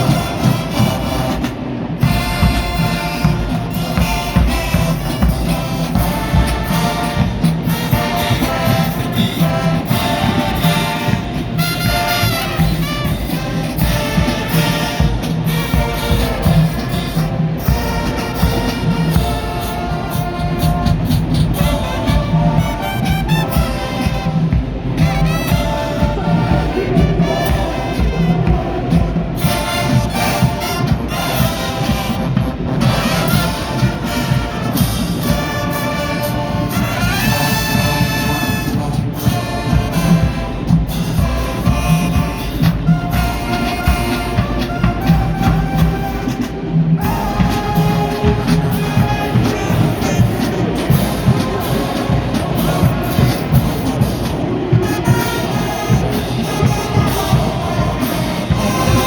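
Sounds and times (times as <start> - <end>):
brass horns playing tune: 0.0 - 59.0
steady drum beat: 0.0 - 59.0.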